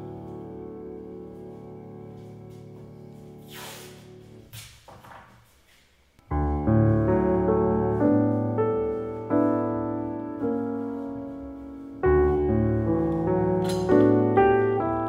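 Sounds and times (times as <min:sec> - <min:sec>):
slow piano music: 0:00.0 - 0:04.5, 0:06.2 - 0:15.0.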